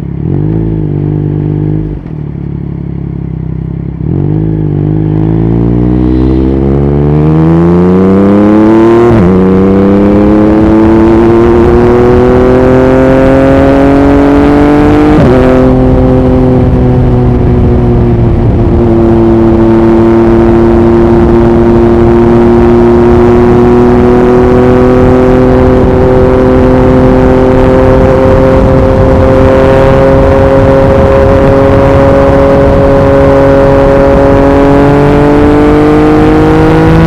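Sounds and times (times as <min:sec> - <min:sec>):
motorcycle engine accelerating: 0:00.0 - 0:37.0
wind noise on microphone: 0:05.8 - 0:37.0.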